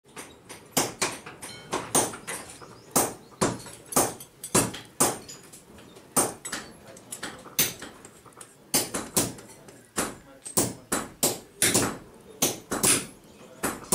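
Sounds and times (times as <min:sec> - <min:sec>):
hammer striking hot steel on anvil: 0:00.2 - 0:02.4, 0:03.0 - 0:05.4, 0:06.2 - 0:08.0, 0:08.7 - 0:13.9.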